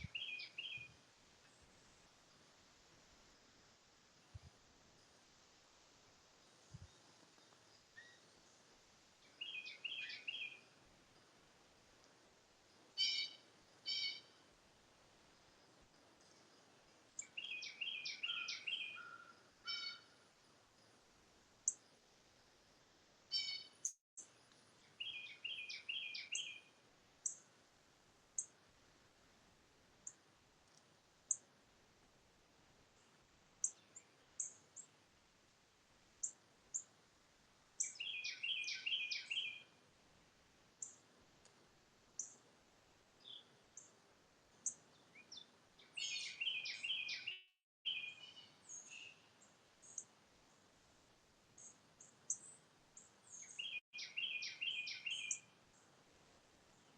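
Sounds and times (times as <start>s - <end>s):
faint background hiss: 0.0s - 56.9s.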